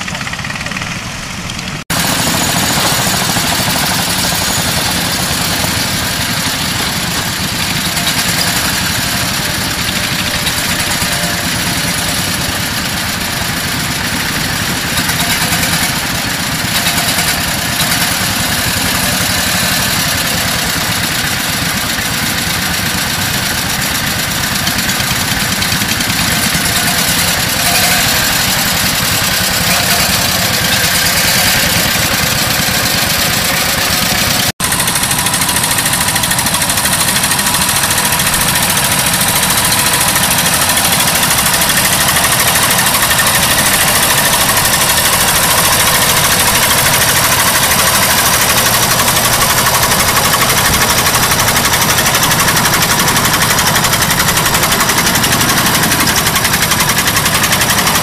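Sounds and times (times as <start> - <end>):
walking tractor engine under load: 0.0 - 58.0.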